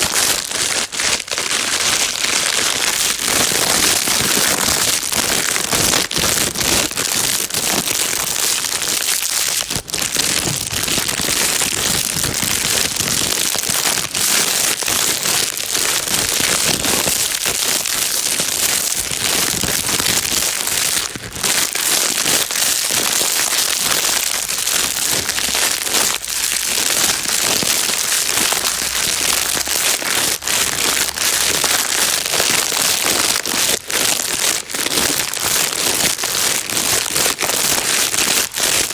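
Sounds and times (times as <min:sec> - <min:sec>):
plastic bag crinkling: 0:00.0 - 0:38.9.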